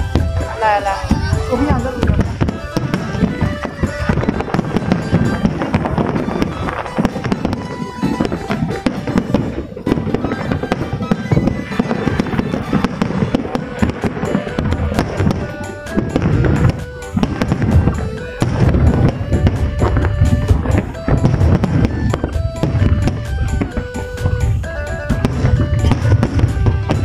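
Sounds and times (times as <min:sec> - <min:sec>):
fireworks bangs and crackles: 0:00.0 - 0:27.0
music: 0:00.0 - 0:27.0.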